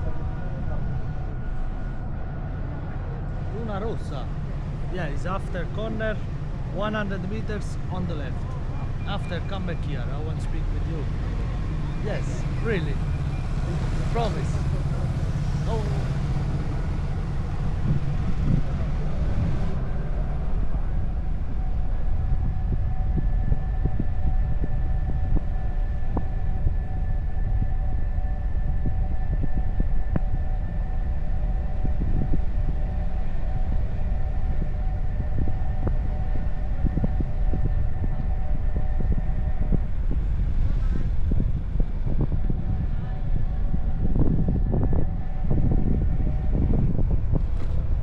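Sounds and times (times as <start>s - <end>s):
car driving rumble: 0.0s - 48.0s
faint steady whine: 0.0s - 48.0s.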